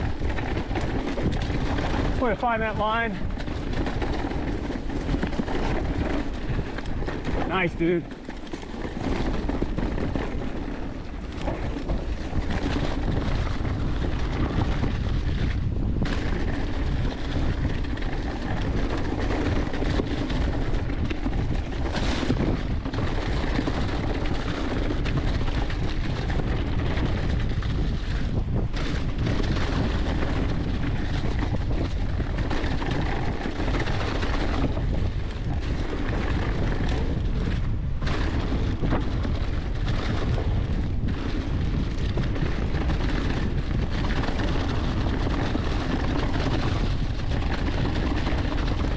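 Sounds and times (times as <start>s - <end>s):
bike tyres through leaves: 0.0s - 48.9s
wind buffeting microphone: 0.0s - 48.9s.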